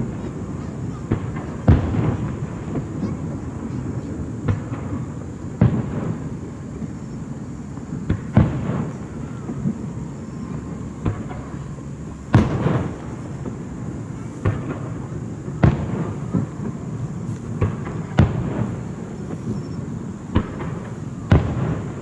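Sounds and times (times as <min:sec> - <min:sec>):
fireworks booming: 0:00.0 - 0:22.0.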